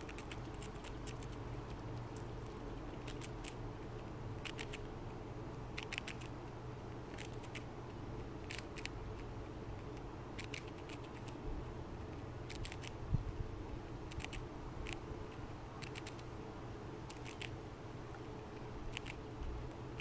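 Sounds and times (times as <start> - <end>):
squirrel chewing and crunching: 0.0 - 11.4, 12.0 - 13.0, 13.7 - 16.4, 17.0 - 20.0
steady low hum: 0.0 - 20.0.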